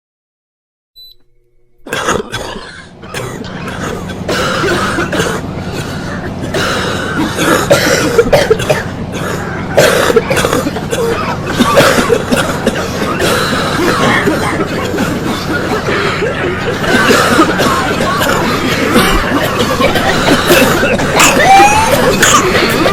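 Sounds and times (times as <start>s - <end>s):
air conditioning hum: 1.0s - 22.9s
person coughing: 1.9s - 22.9s.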